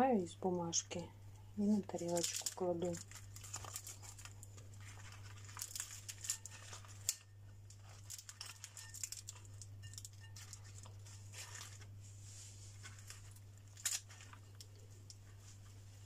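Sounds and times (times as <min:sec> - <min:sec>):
steady low hum: 0:00.0 - 0:16.0
baking paper crinkling: 0:01.6 - 0:16.0.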